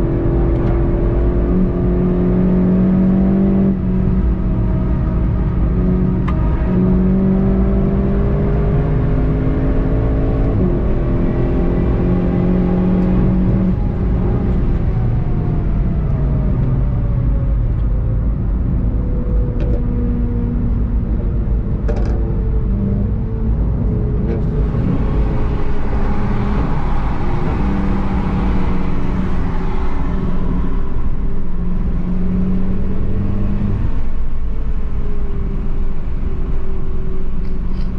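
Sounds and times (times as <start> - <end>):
car engine driving: 0.0 - 37.9
wind and tyre noise: 0.0 - 37.9.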